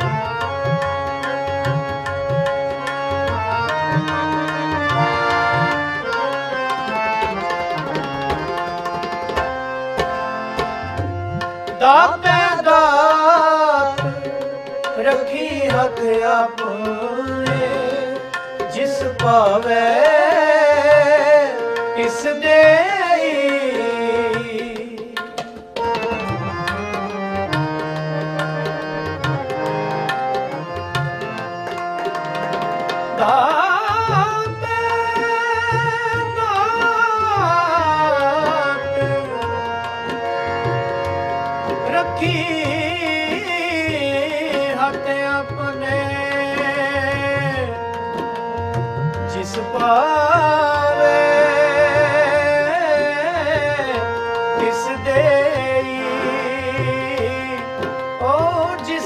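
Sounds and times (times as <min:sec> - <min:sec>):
man singing: 0:00.0 - 0:07.8, 0:10.0 - 0:59.0
harmonium chords: 0:00.0 - 0:59.0
tabla drumming: 0:00.0 - 0:59.0.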